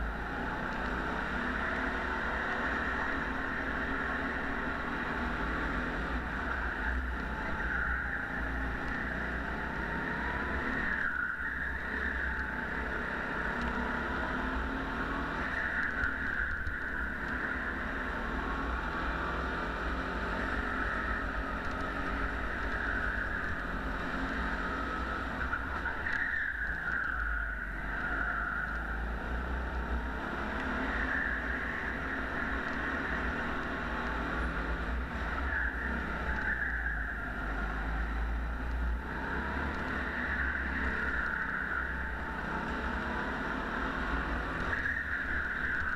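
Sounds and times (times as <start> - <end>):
go-kart engine revving: 0.0 - 45.9.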